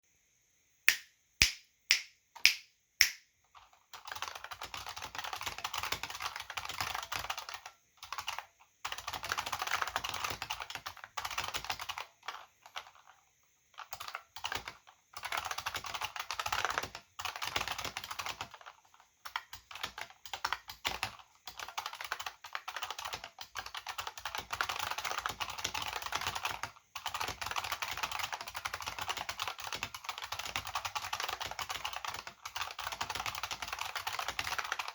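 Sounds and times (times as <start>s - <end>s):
keyboard typing: 0.9s - 12.9s, 13.8s - 34.9s.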